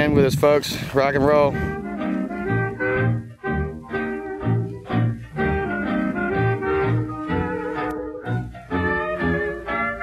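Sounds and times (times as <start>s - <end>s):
old jazz dance band: 0.0s - 10.0s.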